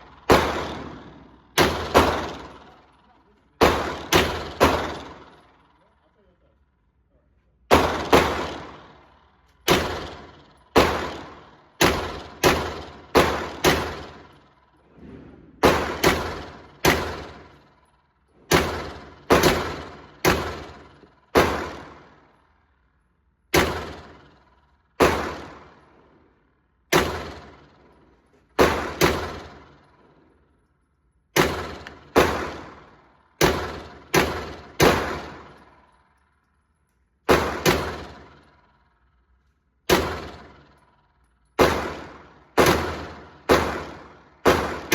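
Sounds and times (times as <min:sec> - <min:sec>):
pistol gunshots: 0:00.0 - 0:03.0, 0:03.6 - 0:05.8, 0:07.7 - 0:22.4, 0:23.5 - 0:26.2, 0:26.9 - 0:30.0, 0:31.3 - 0:36.0, 0:37.3 - 0:38.9, 0:39.9 - 0:44.9.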